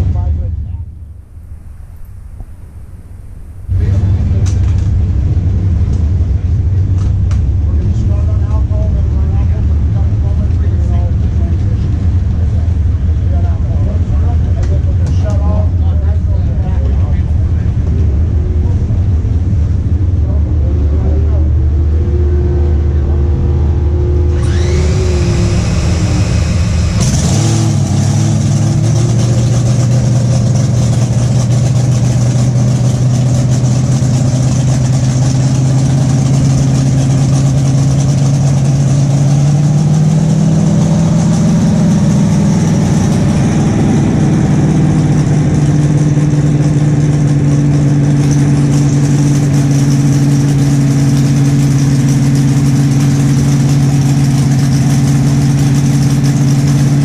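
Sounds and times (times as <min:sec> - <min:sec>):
dragster engine idling: 0:00.0 - 0:57.0
starter whine: 0:00.0 - 0:57.0.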